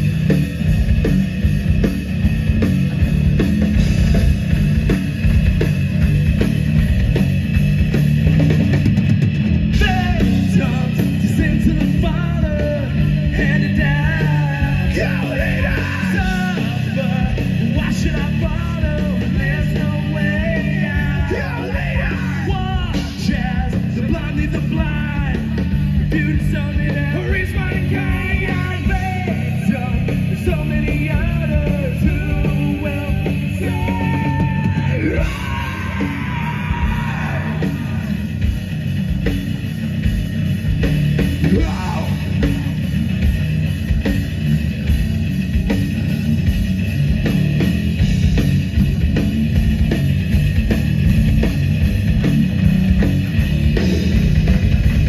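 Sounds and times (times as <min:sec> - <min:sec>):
live heavy rock band: 0:00.0 - 0:55.0.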